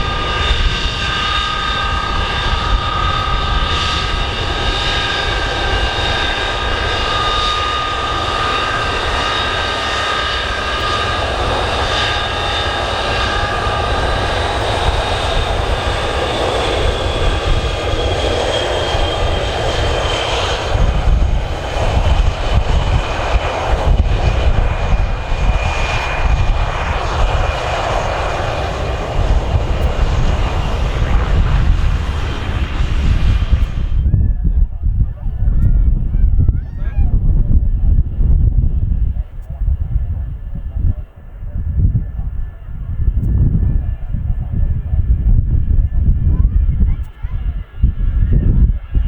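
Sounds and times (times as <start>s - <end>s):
heavy low rumble: 0.0s - 49.0s
jet engine whine: 0.0s - 49.0s.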